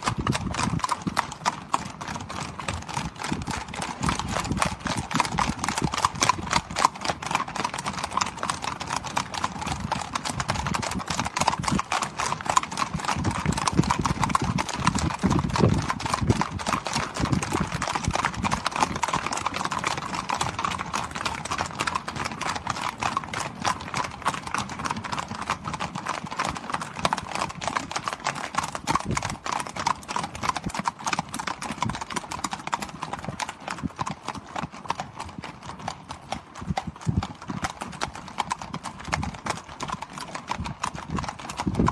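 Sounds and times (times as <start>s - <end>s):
hooves clattering on bridge: 0.0s - 41.9s.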